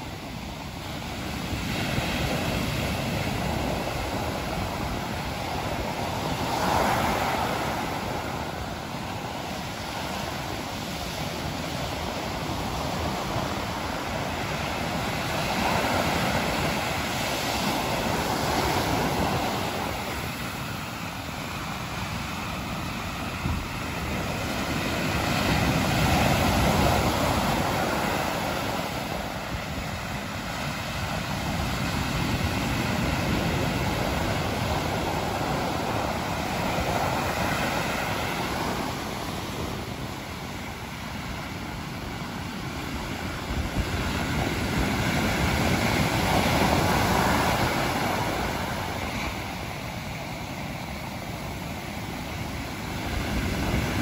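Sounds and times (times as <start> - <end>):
sea surf breaking on beach: 0.0 - 54.0.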